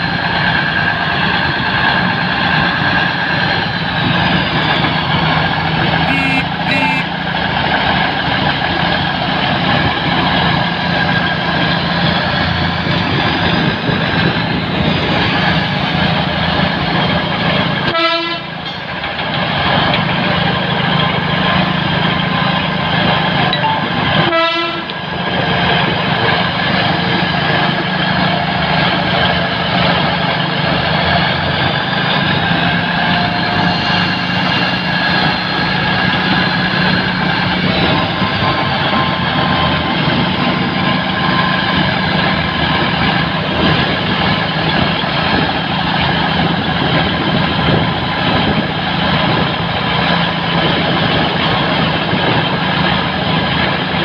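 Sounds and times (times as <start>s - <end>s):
railbus engine drone: 0.0s - 54.0s.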